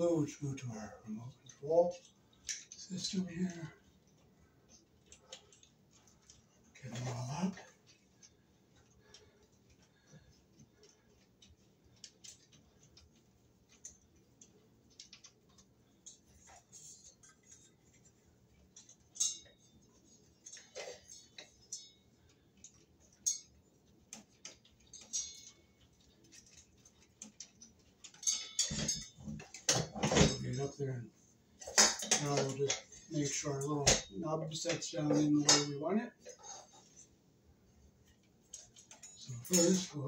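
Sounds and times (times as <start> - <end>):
ceiling fan parts clicking and rattling: 0.0 - 40.0.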